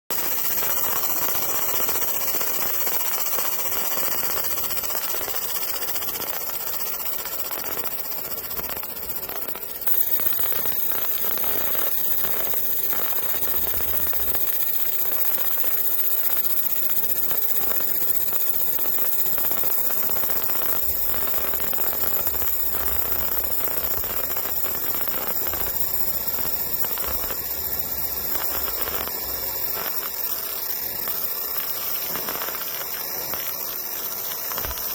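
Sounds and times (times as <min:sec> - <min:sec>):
laser marking machine hissing: 0:00.1 - 0:34.9.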